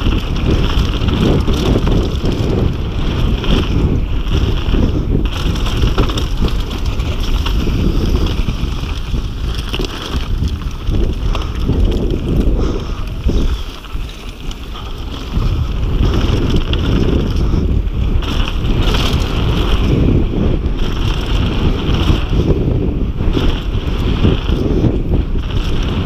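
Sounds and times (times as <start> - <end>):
bike rattling: 0.0 - 26.0
tyres rolling over loose dirt: 0.0 - 26.0
wind buffeting microphone: 0.0 - 26.0.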